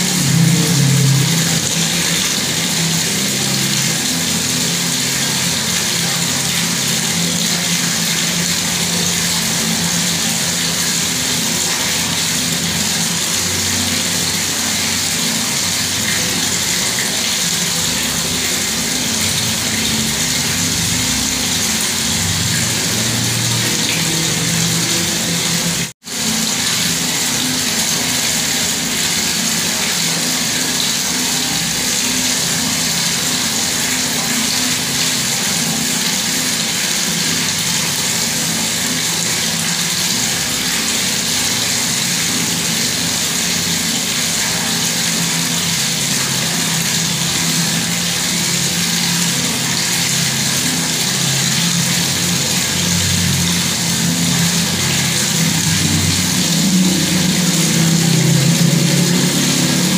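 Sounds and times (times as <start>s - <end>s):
water tap running: 0.0s - 59.9s.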